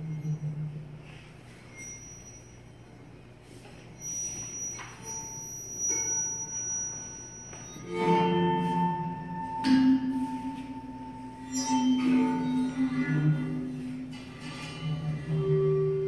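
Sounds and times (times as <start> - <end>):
slow improvised music of ringing tones: 0.0 - 16.0.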